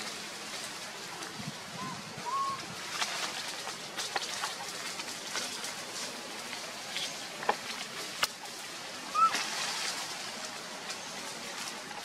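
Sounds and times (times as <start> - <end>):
footsteps in dry leaves: 0.0 - 12.0.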